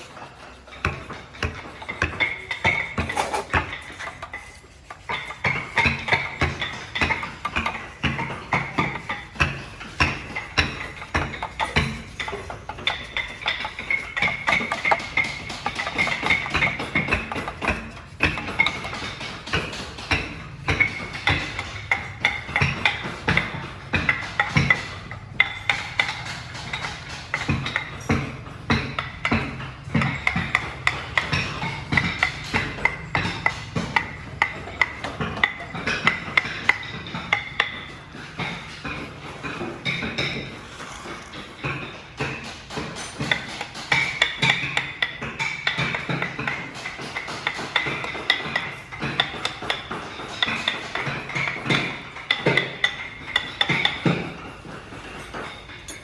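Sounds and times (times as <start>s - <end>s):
sharp wooden knocks: 0.0s - 56.0s.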